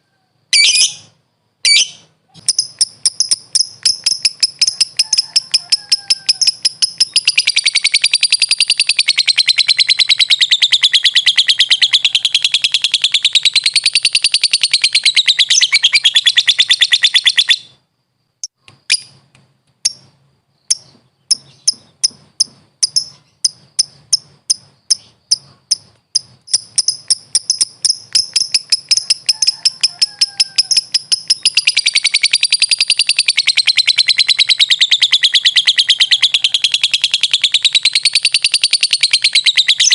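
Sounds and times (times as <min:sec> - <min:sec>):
lovebird sharp chirps: 0:00.5 - 0:17.8, 0:18.4 - 0:19.2, 0:19.8 - 0:39.9
lovebird chattering trill: 0:00.6 - 0:17.8, 0:19.8 - 0:39.9.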